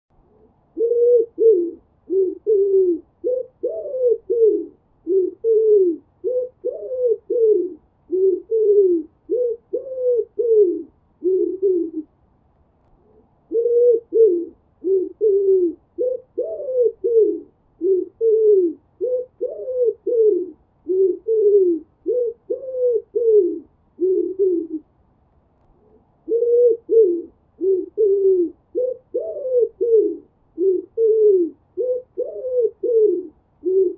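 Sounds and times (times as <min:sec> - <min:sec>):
pigeon cooing: 0:00.2 - 0:12.2, 0:13.0 - 0:24.9, 0:25.8 - 0:33.9.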